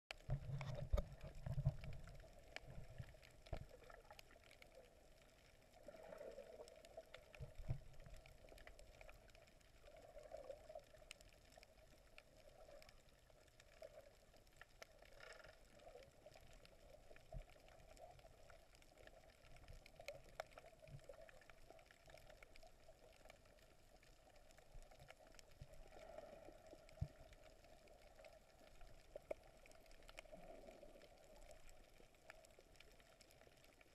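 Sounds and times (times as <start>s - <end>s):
small clicks: 0.1s - 33.9s
underwater low hum: 0.1s - 33.9s.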